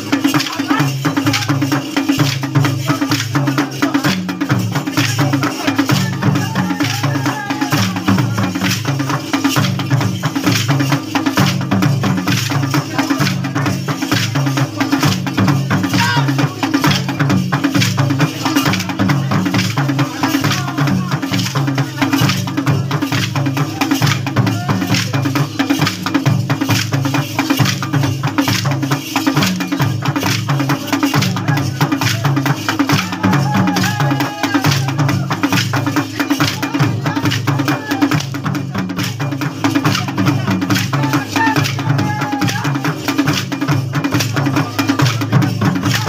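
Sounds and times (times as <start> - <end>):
drumming: 0.0 - 46.0.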